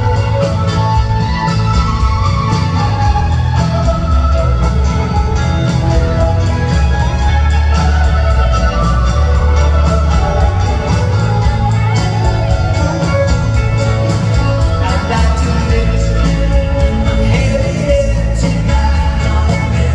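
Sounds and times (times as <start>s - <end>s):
heavy steady bass: 0.0s - 19.9s.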